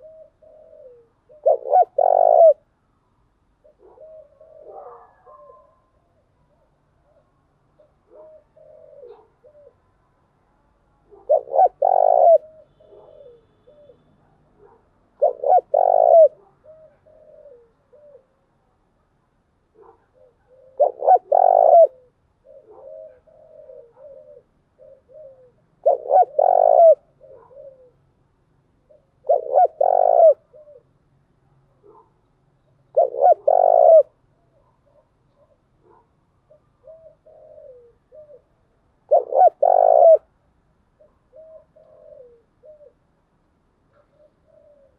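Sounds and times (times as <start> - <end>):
dove cooing: 0.0 - 2.7, 3.6 - 9.9, 11.1 - 18.4, 19.8 - 28.2, 28.8 - 31.0, 32.9 - 40.4, 41.0 - 43.1, 43.9 - 44.9.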